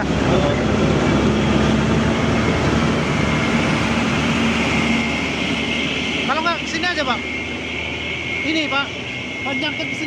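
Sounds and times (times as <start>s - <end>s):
heavy truck engine running: 0.0s - 10.0s.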